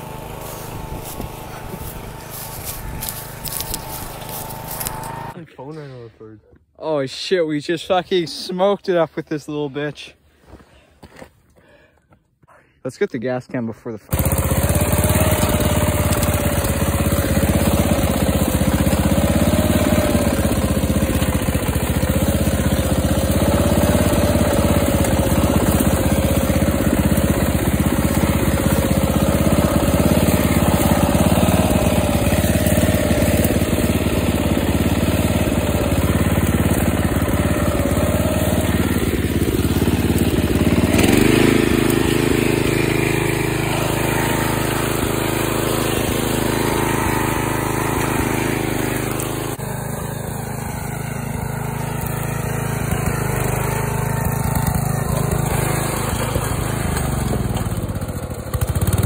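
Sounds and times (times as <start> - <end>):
riding mower engine running: 0.0 - 5.4, 14.1 - 59.0.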